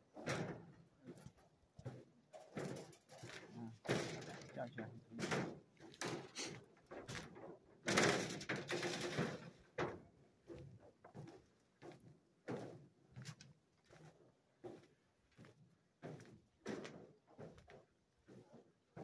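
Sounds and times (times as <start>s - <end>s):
footsteps on metal grating: 0.0s - 19.0s.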